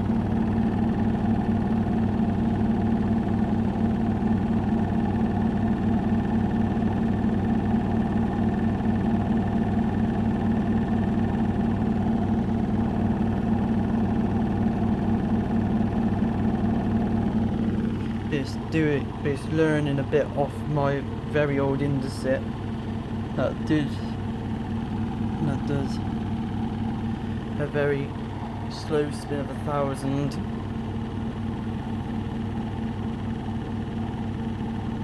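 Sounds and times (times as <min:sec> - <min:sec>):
washing machine spinning: 0:00.0 - 0:35.0.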